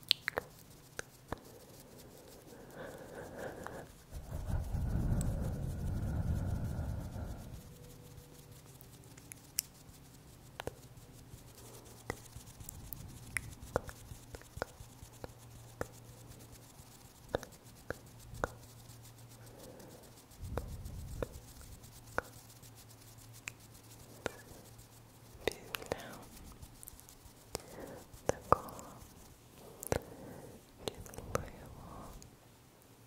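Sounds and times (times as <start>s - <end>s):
fingers tapping and rubbing: 0.0s - 32.3s
low steady hum: 0.0s - 33.0s.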